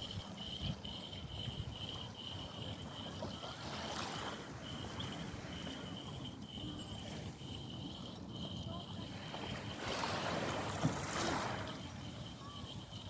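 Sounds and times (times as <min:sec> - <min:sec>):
pulsing high tone: 0:00.0 - 0:13.0
wind buffeting microphone: 0:00.0 - 0:13.0.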